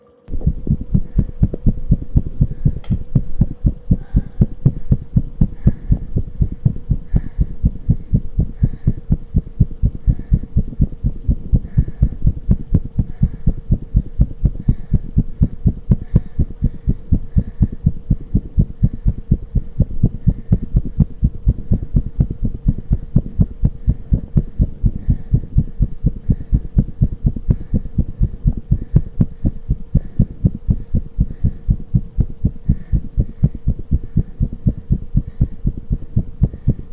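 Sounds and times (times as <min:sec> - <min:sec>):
steady hum: 0:00.0 - 0:36.9
heart beating fast: 0:00.3 - 0:36.9.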